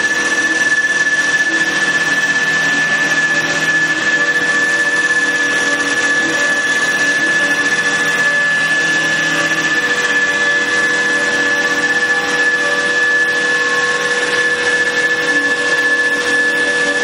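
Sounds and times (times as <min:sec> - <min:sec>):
high machine whine: 0:00.0 - 0:17.0
wood lathe running: 0:00.0 - 0:17.0.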